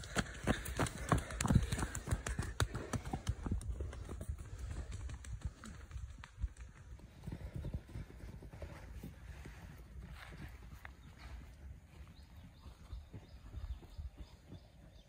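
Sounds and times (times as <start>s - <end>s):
footsteps jogging on dirt: 0.0s - 15.0s.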